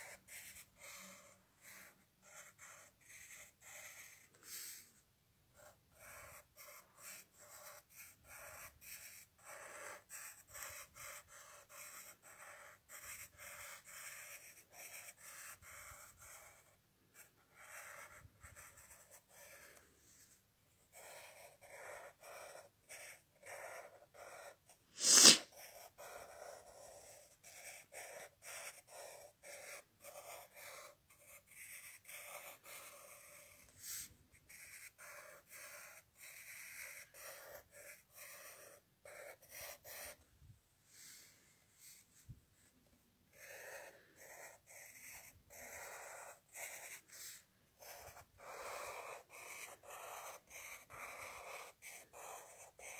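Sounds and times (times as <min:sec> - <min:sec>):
pencil scratching on paper: 0:00.0 - 0:40.2, 0:40.9 - 0:42.7, 0:43.3 - 0:52.9.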